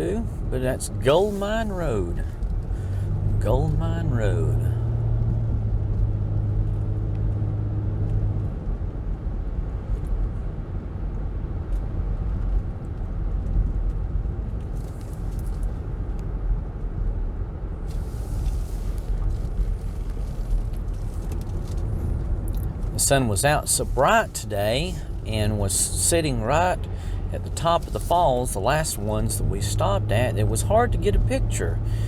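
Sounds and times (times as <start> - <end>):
engine hum: 0.0 - 32.0
low road rumble: 0.0 - 32.0.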